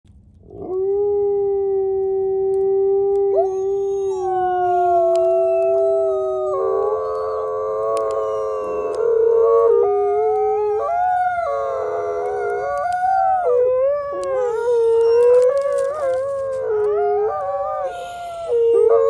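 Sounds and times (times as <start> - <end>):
wolves howling: 0.4 - 19.0.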